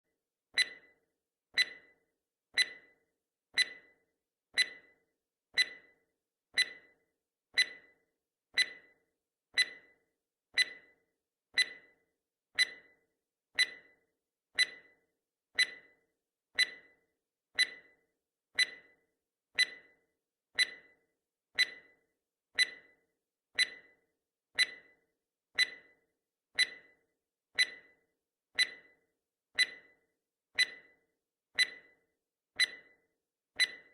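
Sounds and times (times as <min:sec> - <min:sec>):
timer ticking: 0:00.6 - 0:33.9.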